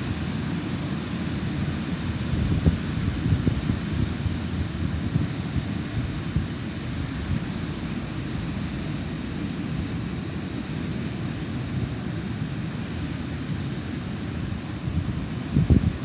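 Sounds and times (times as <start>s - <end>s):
wind buffeting microphone: 0.0s - 10.4s, 11.8s - 16.0s.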